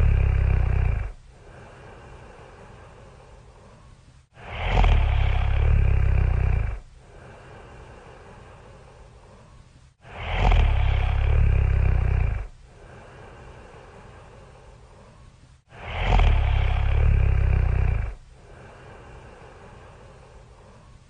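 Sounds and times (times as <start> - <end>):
loud rumbling snoring: 0.0 - 21.0
quiet breathing out: 0.0 - 21.0.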